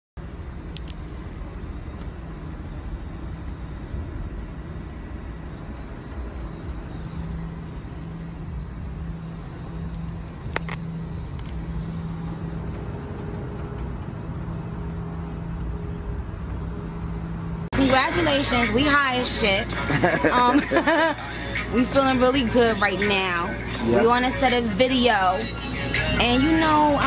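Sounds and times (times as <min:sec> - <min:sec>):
jet cabin engine rumble: 0:00.2 - 0:27.0
low hum: 0:00.2 - 0:27.0.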